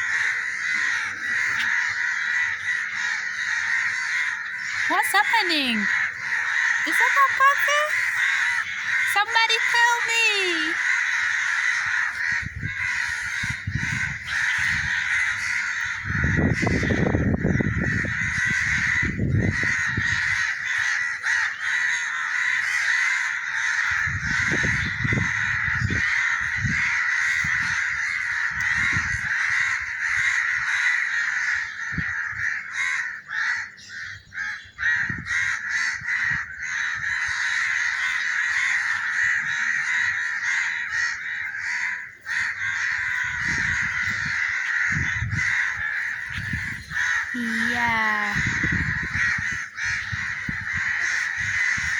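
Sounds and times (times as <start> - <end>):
flock of birds calling: 0.0 - 51.9.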